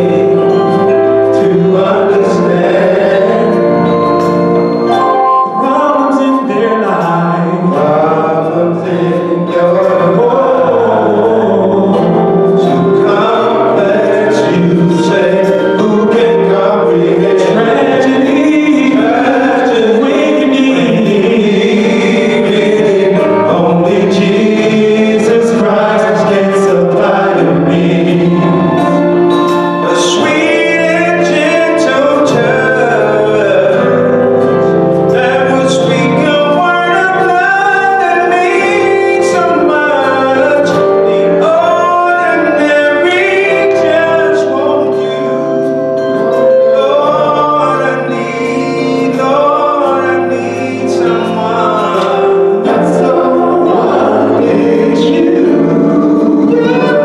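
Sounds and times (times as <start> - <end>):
men singing in harmony: 0.0 - 57.0.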